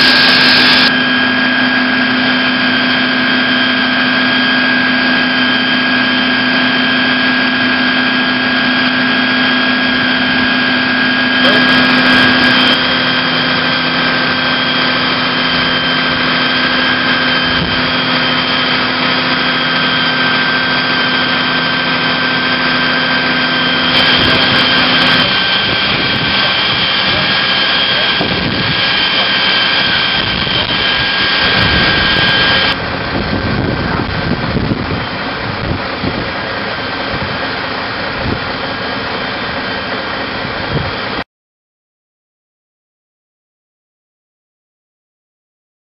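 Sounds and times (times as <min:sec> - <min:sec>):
high whine: 0:00.0 - 0:41.2
machinery droning: 0:00.0 - 0:41.2.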